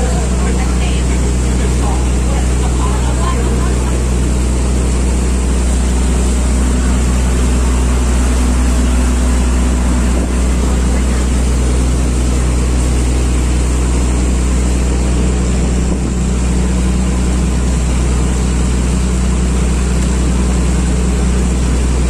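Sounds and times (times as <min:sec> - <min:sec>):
boat engine droning: 0:00.0 - 0:22.0
rushing water noise: 0:00.0 - 0:22.0.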